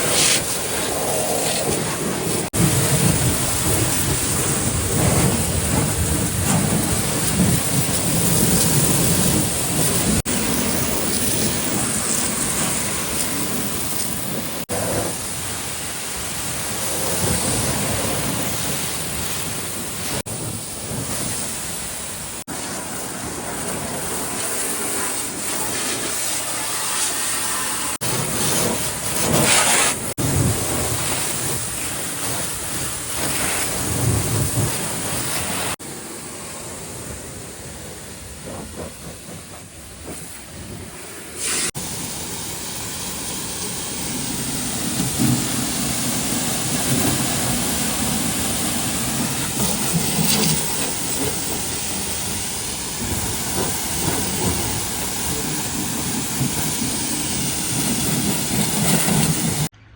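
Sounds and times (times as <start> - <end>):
water jet spraying on steel: 0.0 - 59.7.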